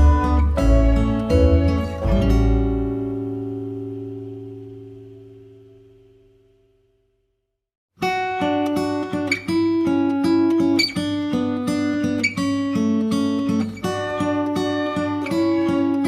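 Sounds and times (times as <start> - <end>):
plucked acoustic guitar tune: 0.0 - 6.4, 8.0 - 16.0.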